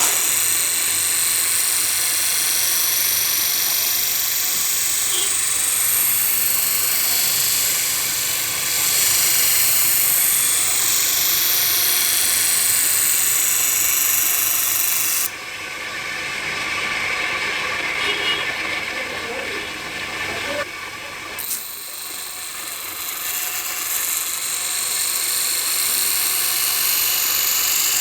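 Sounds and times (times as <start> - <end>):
power grinder grinding blade: 0.0 - 28.0.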